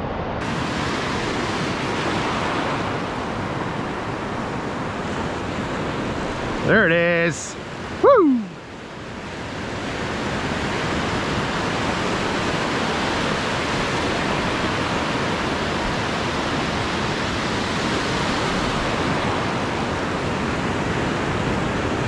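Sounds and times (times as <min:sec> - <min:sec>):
ocean surf breaking: 0:00.4 - 0:22.0.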